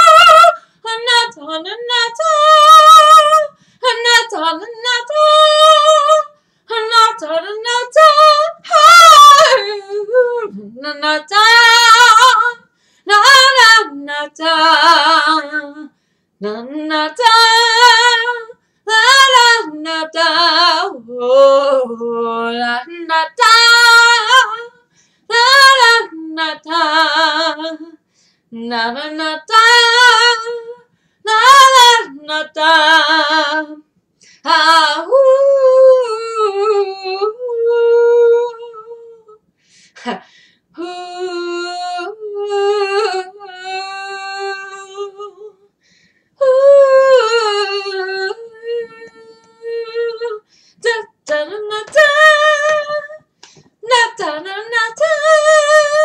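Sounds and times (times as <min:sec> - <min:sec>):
woman singing unaccompanied: 0:00.0 - 0:39.4, 0:40.0 - 0:45.7, 0:46.4 - 0:56.0.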